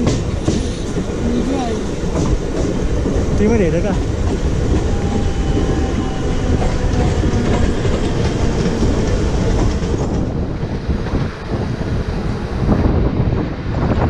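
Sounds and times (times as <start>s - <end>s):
clatter over rail joints: 0.0s - 11.7s
train wheels rumbling on rail: 0.0s - 14.0s.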